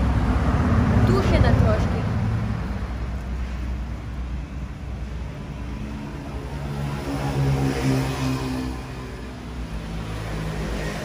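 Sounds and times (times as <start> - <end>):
traffic rumble: 0.0 - 11.0
vehicle engine passing: 0.0 - 11.0.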